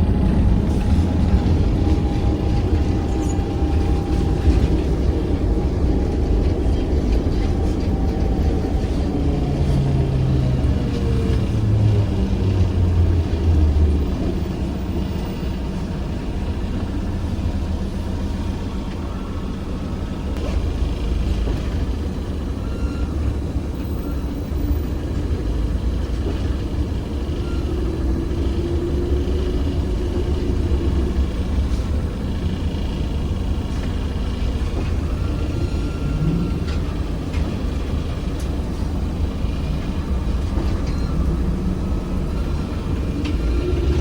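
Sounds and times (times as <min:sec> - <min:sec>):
trolleybus rumble: 0:00.0 - 0:44.0.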